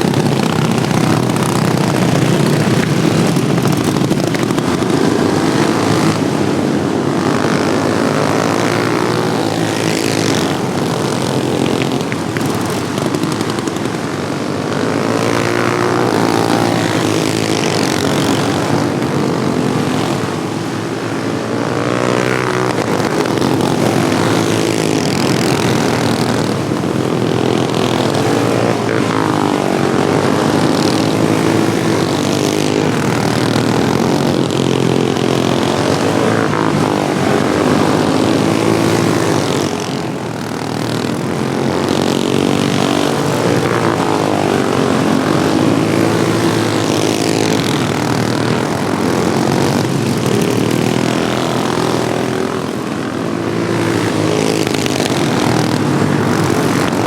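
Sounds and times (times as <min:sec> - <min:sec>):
lawnmower engines racing: 0:00.0 - 0:57.0.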